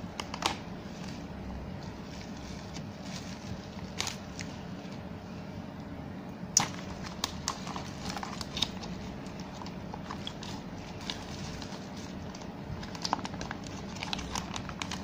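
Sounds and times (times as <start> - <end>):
steady low hum: 0.0 - 15.0
plastic packaging crinkling: 0.2 - 5.1, 6.6 - 15.0.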